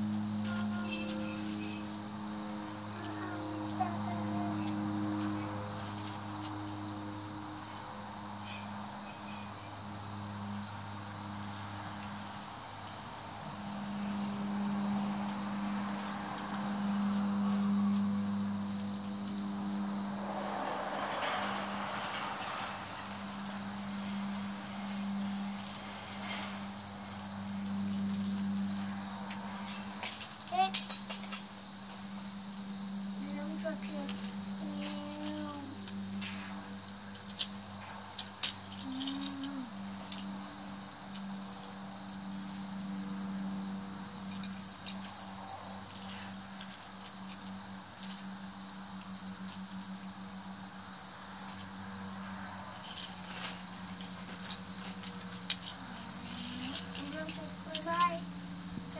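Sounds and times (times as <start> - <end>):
insect chirping: 0.0 - 58.9.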